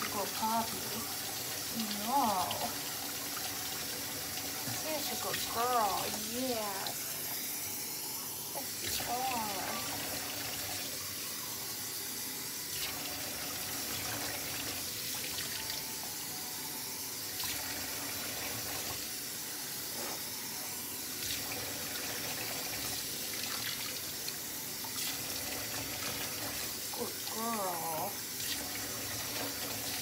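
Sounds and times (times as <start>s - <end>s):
faucet running into metal sink: 0.0s - 30.0s.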